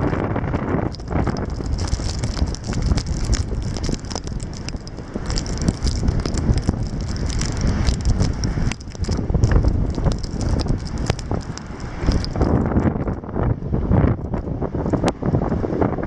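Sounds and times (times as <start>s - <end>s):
sharp ticks and crackles: 0.0s - 13.3s
steady low rumble: 0.0s - 16.0s
wind blowing across microphone: 0.0s - 16.0s.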